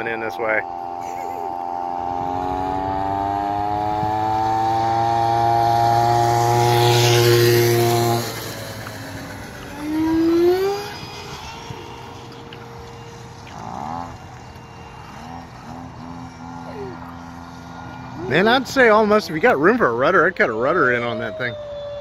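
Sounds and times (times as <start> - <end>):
model jet fan whine: 0.0 - 22.0.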